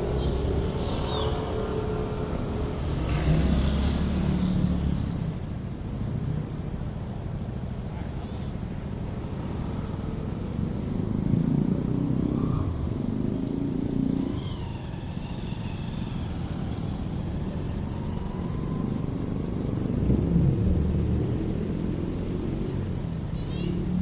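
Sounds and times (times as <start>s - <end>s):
cars passing: 0.0s - 24.0s
road traffic rumble: 0.0s - 24.0s.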